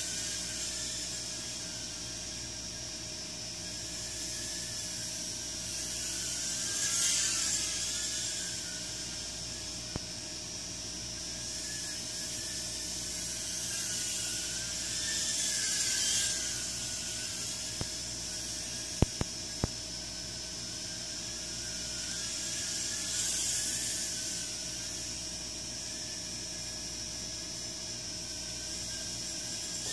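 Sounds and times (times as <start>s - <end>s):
quadcopter propellers whining: 0.0s - 2.5s, 3.6s - 10.0s, 11.2s - 26.8s, 28.4s - 29.9s
steady hiss: 0.0s - 29.9s.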